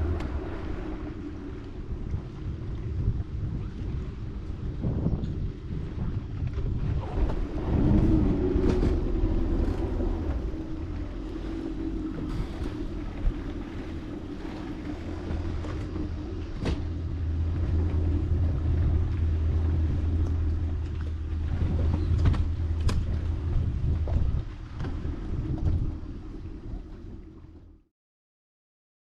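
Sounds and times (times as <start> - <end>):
boat motor running: 0.0 - 27.8
wind on microphone: 0.0 - 27.8.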